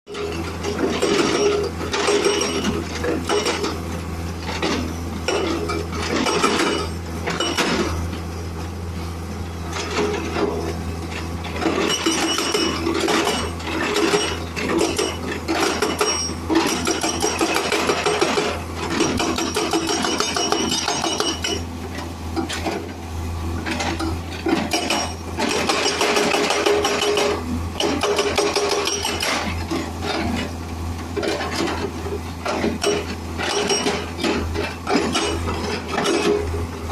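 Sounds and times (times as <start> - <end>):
hydraulic breaker hammering rock: 0.1 - 8.5, 9.7 - 23.0, 23.6 - 36.9
excavator engine drone: 0.1 - 36.9.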